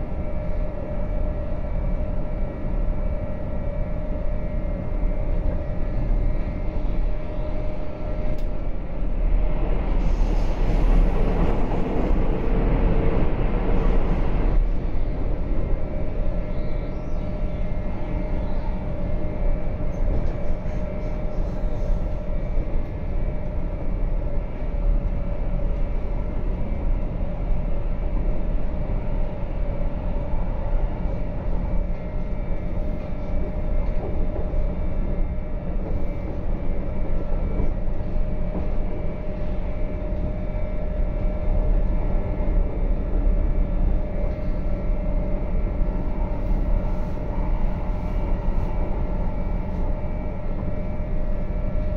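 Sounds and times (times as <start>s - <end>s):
train hum: 0.0s - 51.9s
wheels rumbling on rails: 5.3s - 51.9s.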